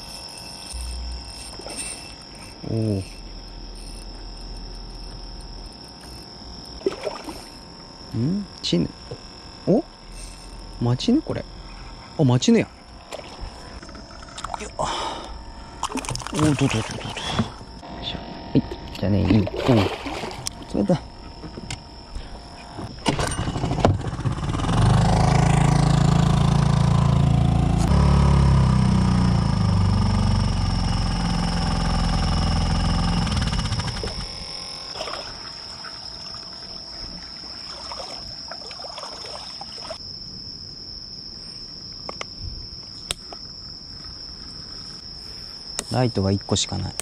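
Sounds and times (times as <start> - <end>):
outboard motor running: 0.0 - 40.0
insects chirring: 0.0 - 47.0.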